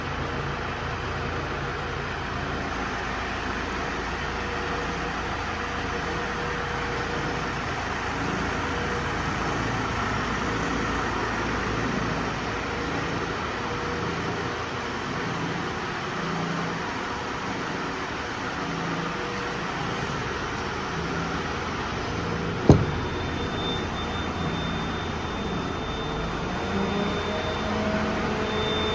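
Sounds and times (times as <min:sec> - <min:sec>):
diesel van engine idling: 0:00.0 - 0:28.9.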